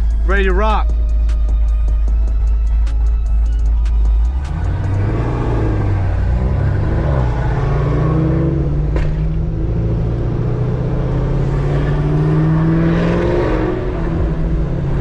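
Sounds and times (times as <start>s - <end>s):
car engine accelerating: 1.5s - 15.0s.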